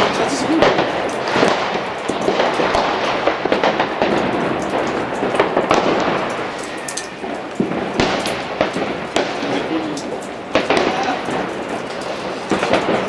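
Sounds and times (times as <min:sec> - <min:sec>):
firecrackers crackling: 0:00.0 - 0:13.0
fireworks popping and banging: 0:00.0 - 0:13.0.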